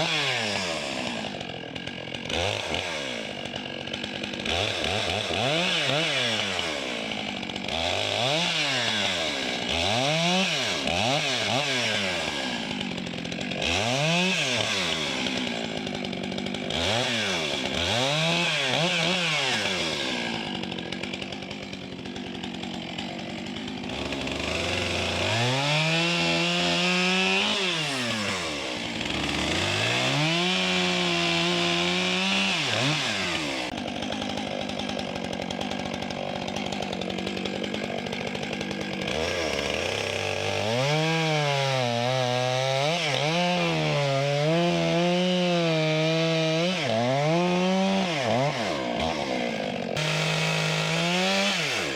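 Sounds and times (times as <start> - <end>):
chainsaw revving and cutting wood: 0.0 - 51.9.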